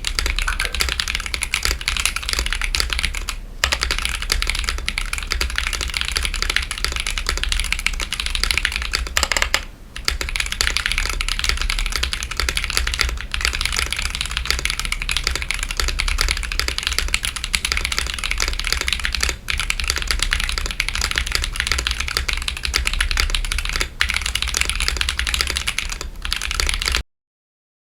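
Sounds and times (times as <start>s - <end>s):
fast typing on mechanical keyboard: 0.0s - 27.0s.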